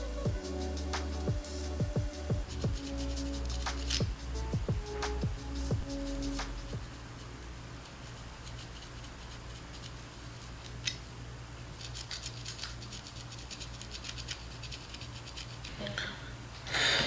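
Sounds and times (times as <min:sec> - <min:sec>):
crochet hook scratching through hair: 0:00.6 - 0:11.0, 0:11.7 - 0:15.8.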